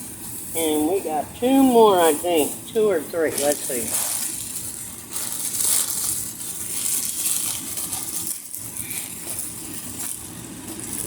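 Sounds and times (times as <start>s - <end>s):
plastic packaging rustling: 0.3s - 11.0s.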